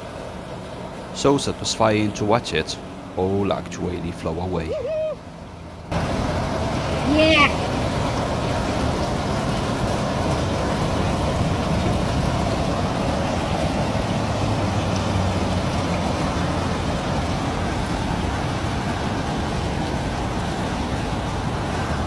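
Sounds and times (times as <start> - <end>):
floodwater pouring into drain: 0.8 - 22.0.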